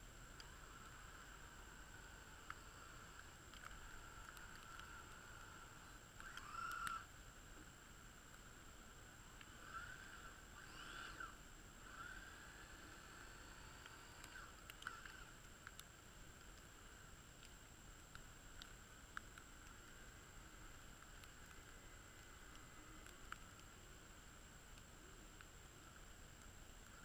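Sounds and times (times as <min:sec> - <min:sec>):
faint high hum: 0:00.0 - 0:27.0
soft clicks: 0:00.3 - 0:07.1, 0:09.3 - 0:27.0.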